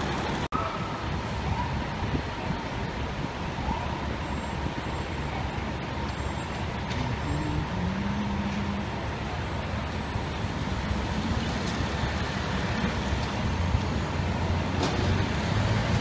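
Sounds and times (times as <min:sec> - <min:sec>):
city street traffic: 0:00.0 - 0:16.0
fire truck diesel engines idling: 0:00.0 - 0:16.0.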